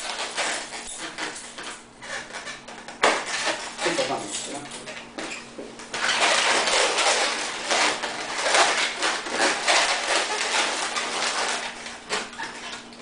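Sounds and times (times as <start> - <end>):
rubber balloons rubbing: 0.0 - 13.0.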